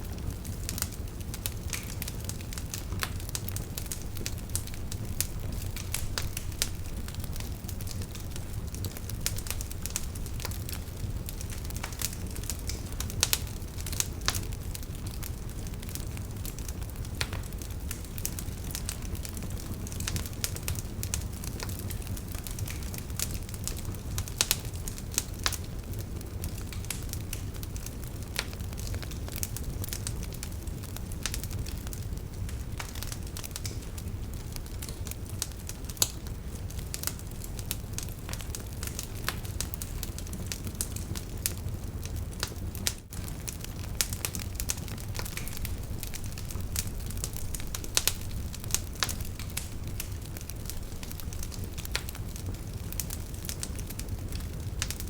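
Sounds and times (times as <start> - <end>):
logs crackling and popping: 0.0 - 55.0
low rumble of flames: 0.0 - 55.0.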